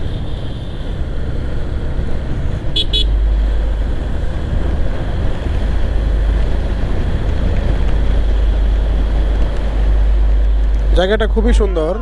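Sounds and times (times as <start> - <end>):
motorcycle engine and road noise: 0.0 - 12.0
wind buffeting microphone: 0.0 - 12.0.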